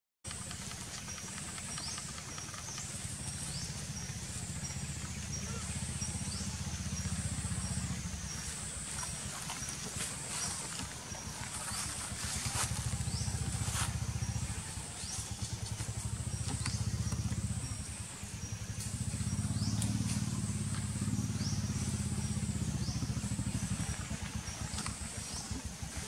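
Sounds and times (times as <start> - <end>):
engine running at low revs: 0.3 - 26.0.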